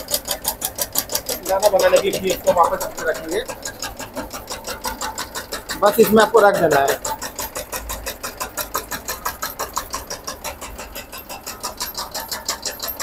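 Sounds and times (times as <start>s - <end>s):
cutting blade chopping rhythmically: 0.0s - 13.0s
low motor hum: 0.0s - 13.0s.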